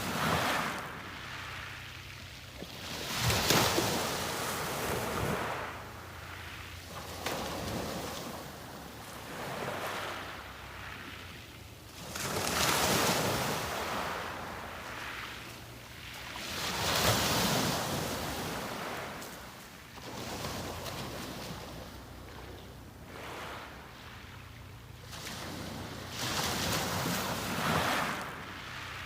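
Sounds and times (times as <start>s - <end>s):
sea waves breaking on beach: 0.0s - 29.0s.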